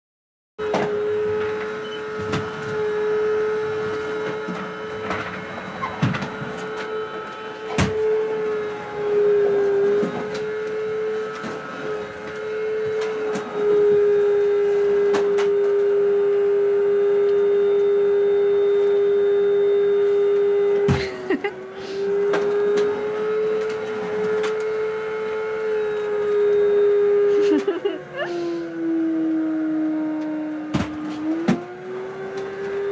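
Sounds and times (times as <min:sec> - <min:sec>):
vacuum cleaner running: 0:00.6 - 0:32.9.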